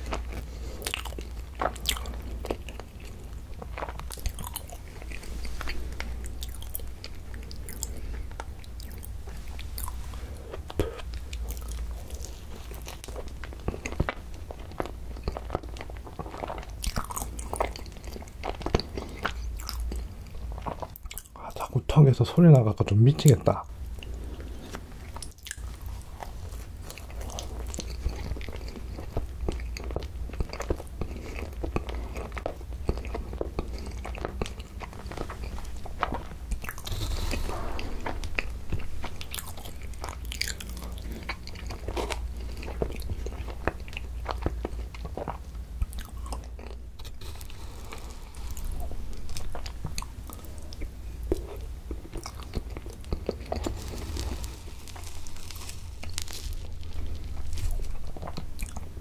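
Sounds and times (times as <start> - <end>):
close chewing: 0.0 - 21.7, 23.9 - 59.0.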